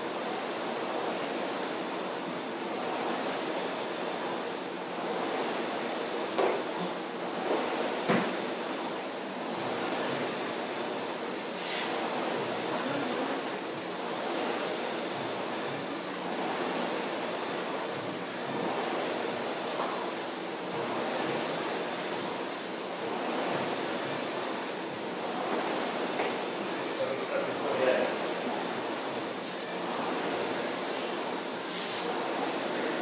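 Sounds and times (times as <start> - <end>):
rowing machine flywheel whooshing: 0.0 - 33.0.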